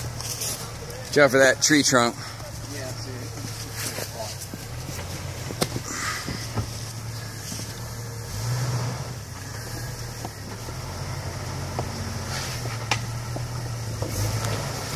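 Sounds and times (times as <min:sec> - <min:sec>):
engine running at low revs: 0:02.2 - 0:14.9.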